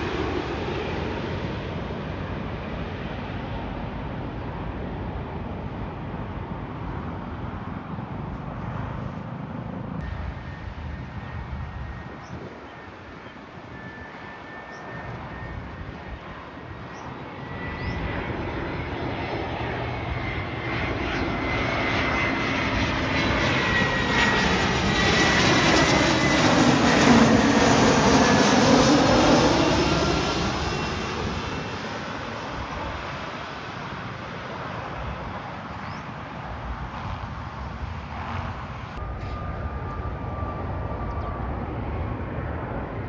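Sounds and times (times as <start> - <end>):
jet airliner passing: 0.0 - 43.0.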